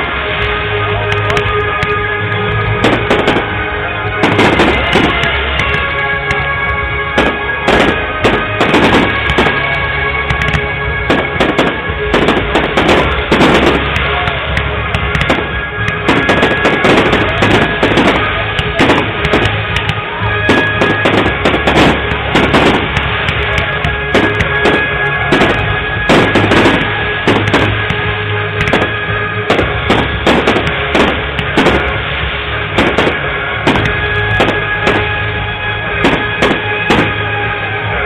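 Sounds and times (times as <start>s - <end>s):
fireworks bangs and crackles: 0.0s - 38.0s
music playing: 0.0s - 38.0s.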